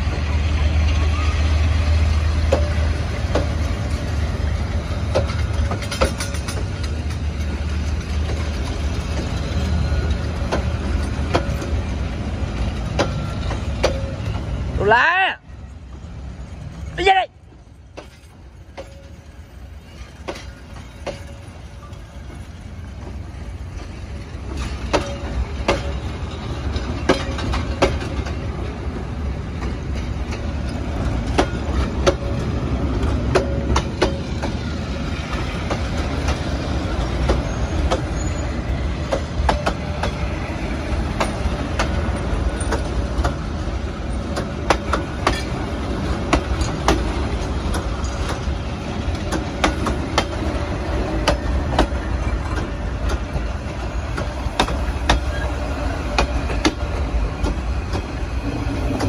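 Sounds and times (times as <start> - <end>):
wheels clicking on track: 0.0 - 14.8, 15.9 - 59.0
train wheels rumbling on rail: 0.0 - 59.0.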